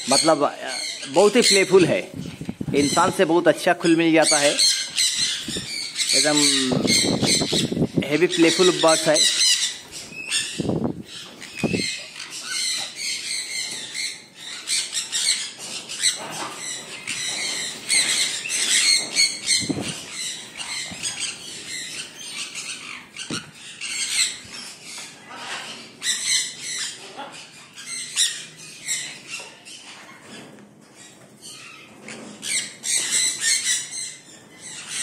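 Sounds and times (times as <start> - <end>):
parrots chattering and squawking: 0.0 - 3.4, 4.1 - 35.0.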